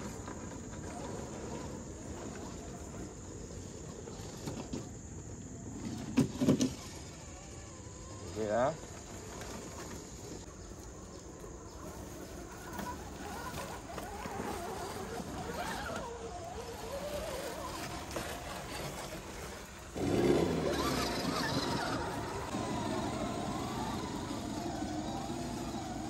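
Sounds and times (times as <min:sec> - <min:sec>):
rc truck electric motors whining: 0:00.0 - 0:26.0.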